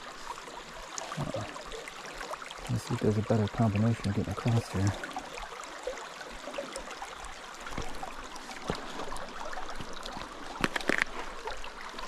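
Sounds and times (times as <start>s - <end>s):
creek water flowing over rocks: 0.0s - 12.0s.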